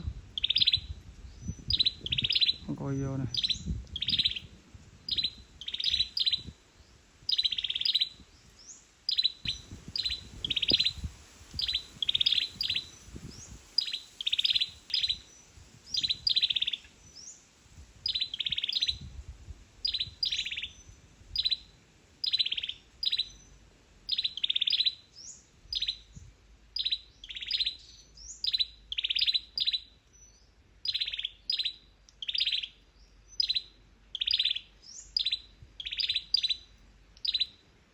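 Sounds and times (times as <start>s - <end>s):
small bird chirping: 0.0s - 17.4s, 18.0s - 19.2s, 19.8s - 37.6s.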